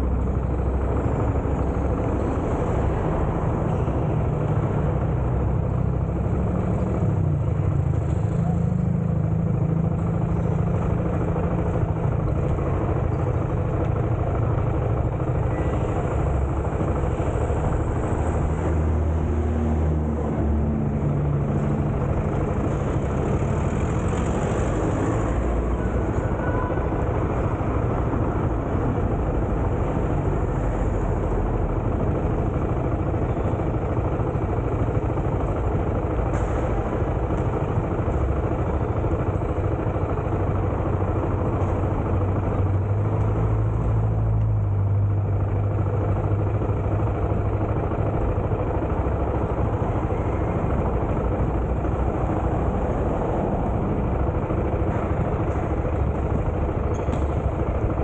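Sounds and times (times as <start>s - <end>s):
road and air noise: 0.0s - 58.0s
vehicle engine hum: 0.0s - 58.0s.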